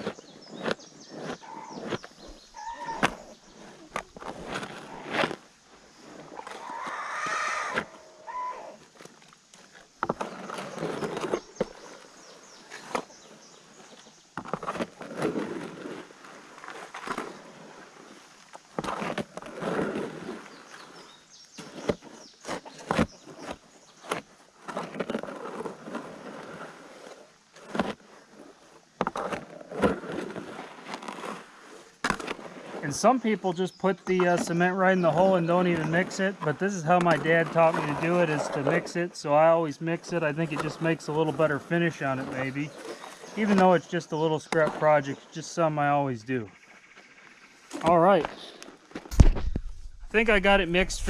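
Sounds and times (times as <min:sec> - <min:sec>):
concrete scraping in plastic tub: 0:00.0 - 0:06.7, 0:08.8 - 0:39.0, 0:40.0 - 0:45.2.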